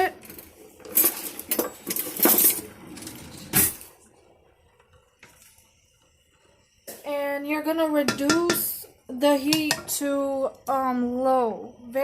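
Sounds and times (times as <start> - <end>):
boiling water: 0.0 - 12.0.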